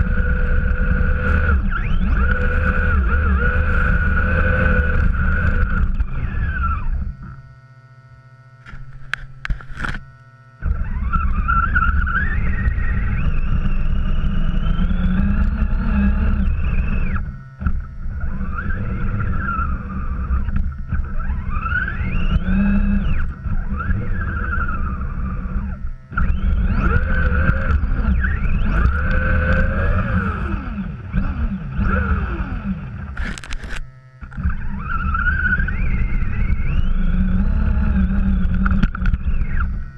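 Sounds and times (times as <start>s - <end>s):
low chassis rumble: 0.0s - 39.9s
toy truck motor whine: 0.0s - 39.9s.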